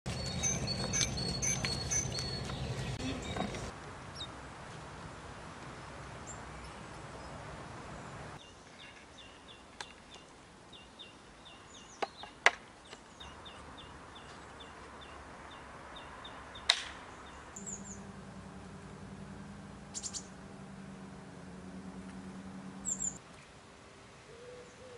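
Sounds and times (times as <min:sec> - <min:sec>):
songbird chirping: 0:00.1 - 0:04.4, 0:06.2 - 0:24.9
steady outdoor hiss: 0:00.1 - 0:24.9.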